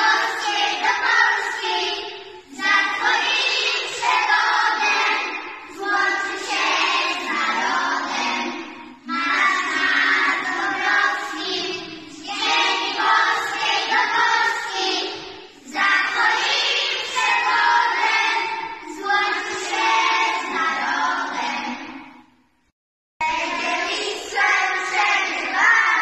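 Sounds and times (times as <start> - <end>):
children singing in unison: 0.0 - 22.4, 23.2 - 26.0.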